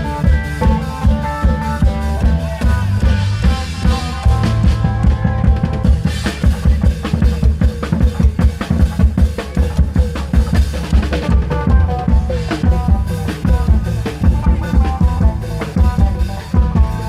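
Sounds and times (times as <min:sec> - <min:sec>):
fast dense drumming: 0:00.0 - 0:17.0.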